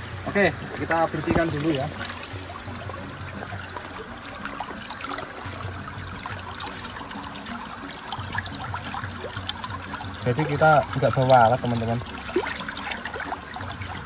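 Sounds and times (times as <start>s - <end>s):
river water trickling: 0.0s - 14.0s
small light splashes: 0.0s - 14.0s.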